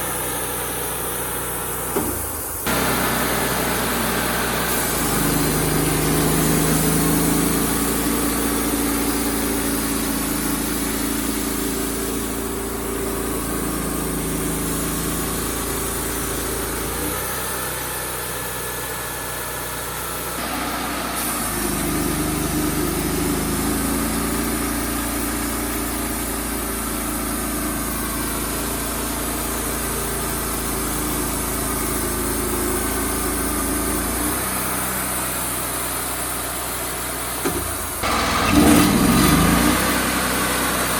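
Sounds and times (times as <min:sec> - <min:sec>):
sawmill sawing boards: 0:00.0 - 0:40.9.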